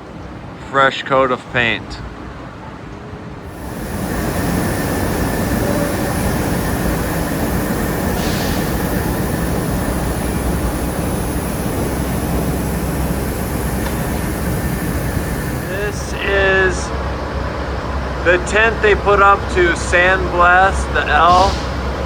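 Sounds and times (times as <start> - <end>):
elevated train rumbling on steel tracks: 1.4 - 22.0.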